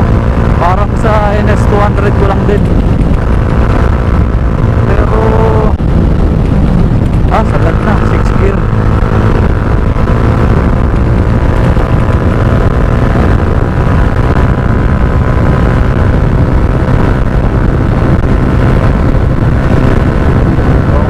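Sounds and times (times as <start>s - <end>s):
motorcycle engine running: 0.0s - 21.0s
wind rushing over microphone: 0.0s - 21.0s.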